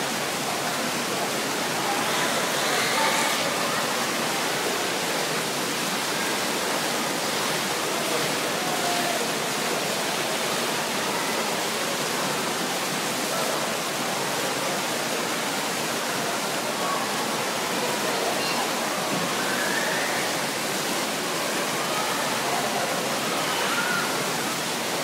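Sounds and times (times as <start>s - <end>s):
fountain water rushing and bubbling: 0.0s - 25.0s.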